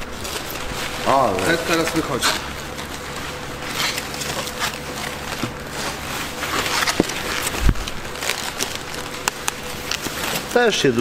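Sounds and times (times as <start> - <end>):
packaging wrap rustling: 0.0 - 11.0.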